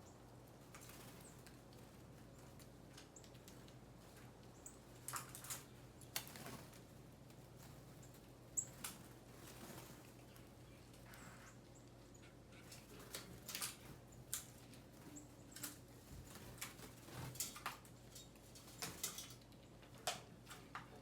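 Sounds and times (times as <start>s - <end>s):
bird rustles and flutters: 0.6s - 21.0s.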